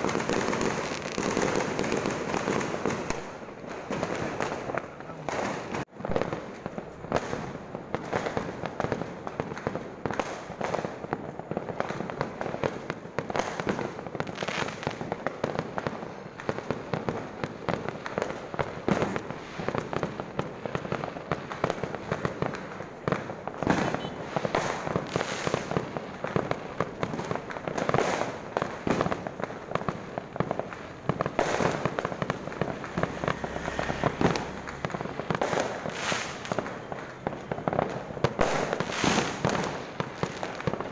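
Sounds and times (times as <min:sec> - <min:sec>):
firecrackers crackling: 0:00.0 - 0:40.9
loud firework bangs: 0:00.0 - 0:40.9.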